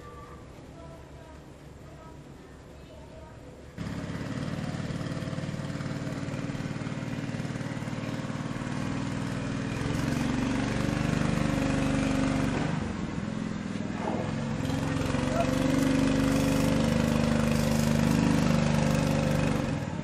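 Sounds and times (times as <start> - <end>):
small engine running: 3.8 - 20.0.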